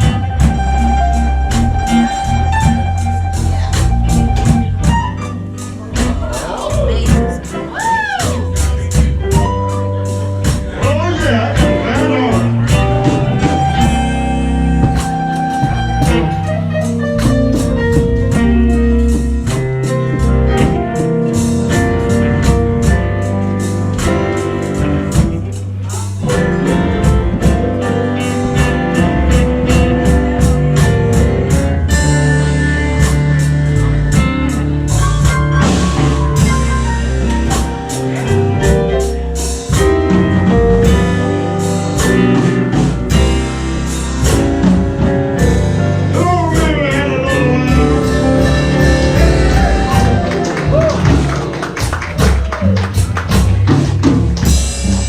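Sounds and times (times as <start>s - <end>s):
blues guitar: 0.0s - 55.0s
drum kit beat: 0.0s - 55.0s.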